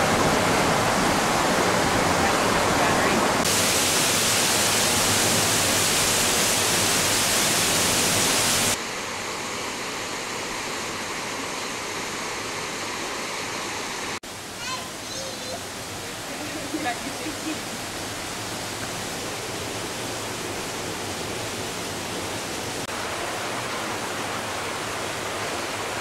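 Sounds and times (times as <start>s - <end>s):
rushing waterfall water: 0.0s - 26.0s.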